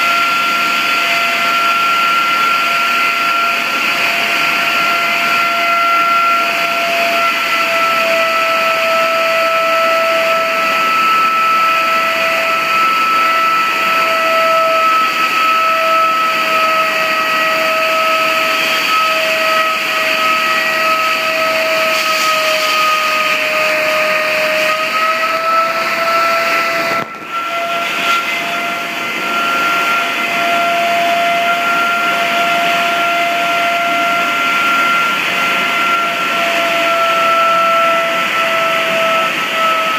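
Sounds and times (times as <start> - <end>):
blaster machine high whine: 0.0 - 39.9.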